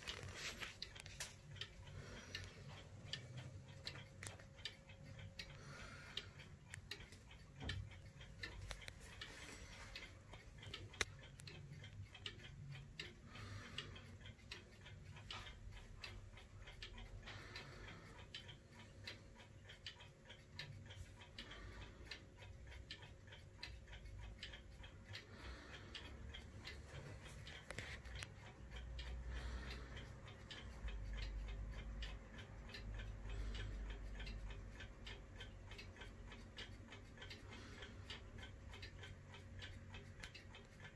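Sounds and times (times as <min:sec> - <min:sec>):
wall clock ticking: 0:00.0 - 0:40.9.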